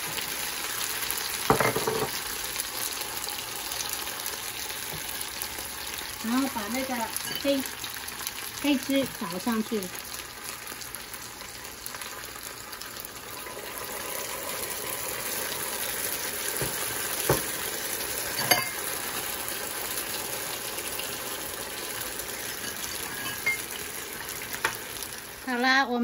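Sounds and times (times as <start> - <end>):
sauce sizzling on hot plate: 0.0 - 26.0.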